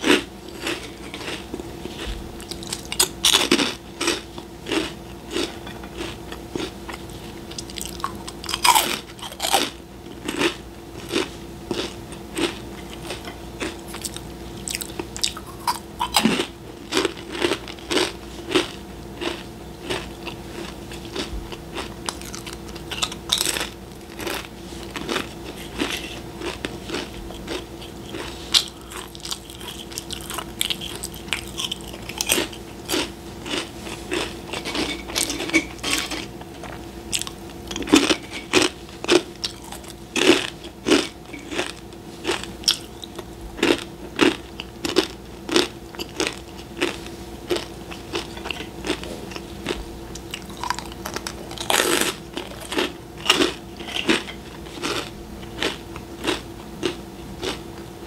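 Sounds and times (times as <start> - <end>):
crisps being chewed: 0.0 - 57.9
faint steady hum: 0.0 - 58.0.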